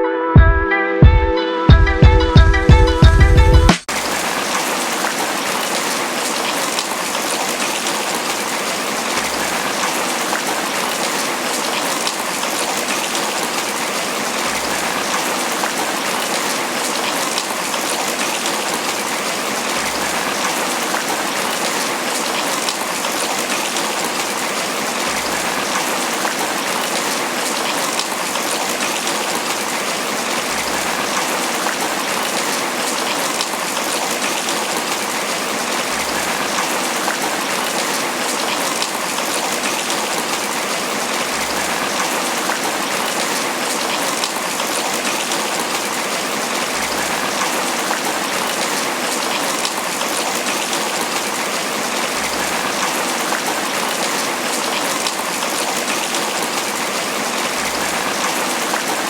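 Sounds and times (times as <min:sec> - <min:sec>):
rain pattering on leaves: 0:03.8 - 0:59.0.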